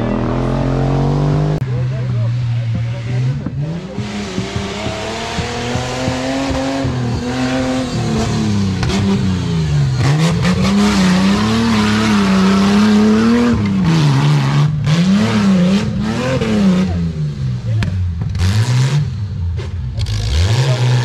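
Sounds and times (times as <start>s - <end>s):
engine revving hard: 0.0s - 21.0s.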